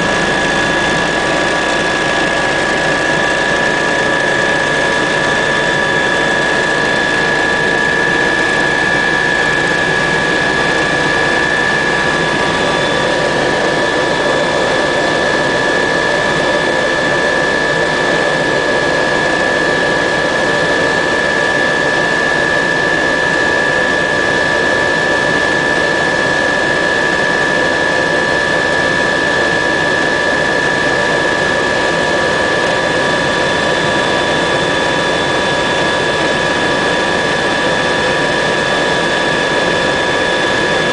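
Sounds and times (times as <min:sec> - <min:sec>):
helicopter rotor noise: 0:00.0 - 0:40.9
helicopter turbine whine: 0:00.0 - 0:40.9.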